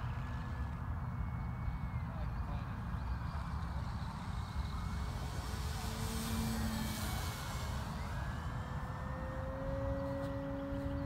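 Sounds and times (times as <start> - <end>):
model plane motor whine: 0.0 - 11.0.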